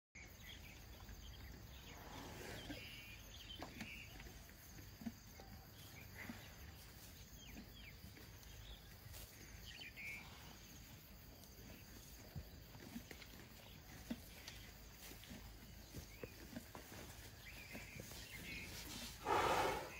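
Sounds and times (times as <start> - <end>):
insect calls: 0.2 - 19.9.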